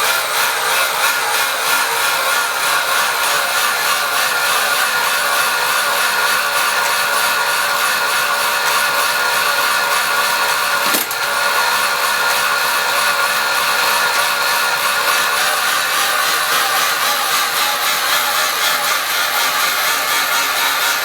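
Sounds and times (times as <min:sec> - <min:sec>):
bike trainer whine: 0:00.0 - 0:21.0.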